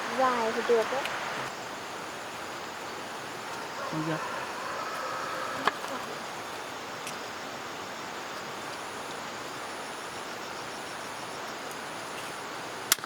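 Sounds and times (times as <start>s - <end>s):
insects trilling: 0.0s - 13.0s
outdoor background hiss: 0.0s - 13.0s.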